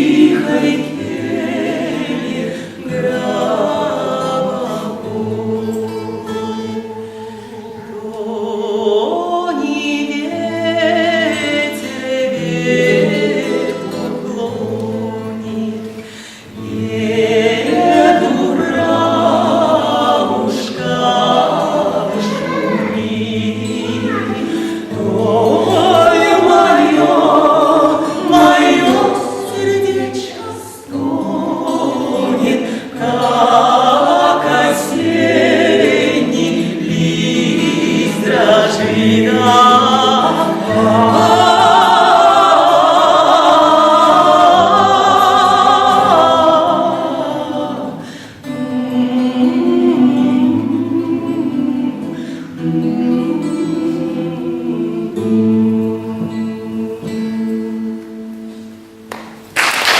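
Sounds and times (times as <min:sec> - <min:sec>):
vocal trio singing in harmony: 0:00.0 - 0:59.1.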